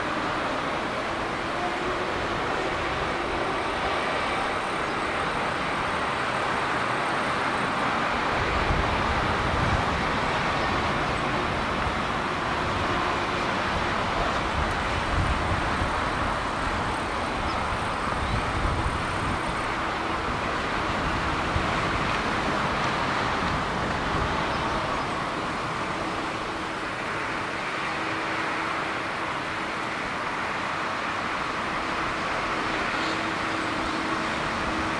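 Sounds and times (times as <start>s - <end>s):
jet engines at takeoff: 0.0s - 34.9s.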